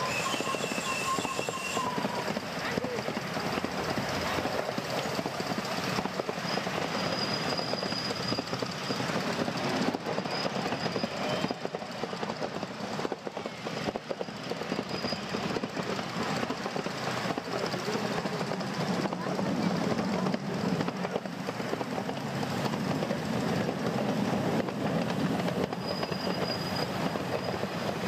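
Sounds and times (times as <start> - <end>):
railway cars rattling on rails: 0.0 - 28.0.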